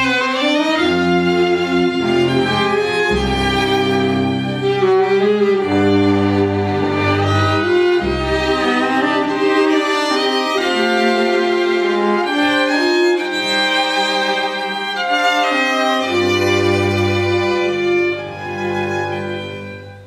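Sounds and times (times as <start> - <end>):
cello and double bass: 0.0 - 20.0
violins playing melody: 0.0 - 20.0.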